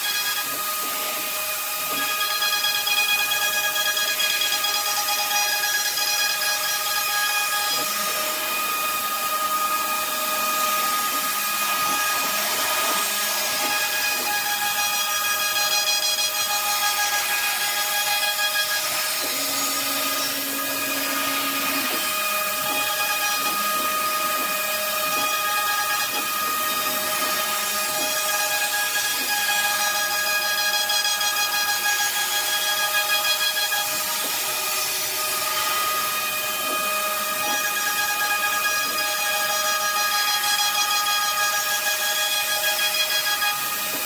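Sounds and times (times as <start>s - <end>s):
router spindle whine cutting wood: 0.0s - 44.0s.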